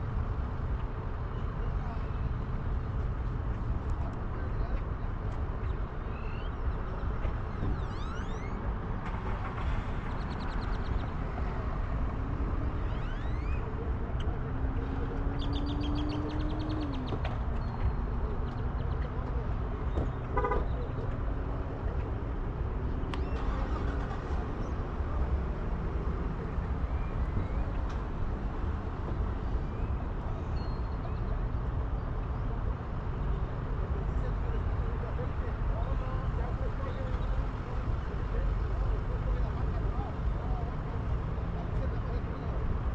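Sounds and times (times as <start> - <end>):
wind and travel rumble: 0.0 - 42.9.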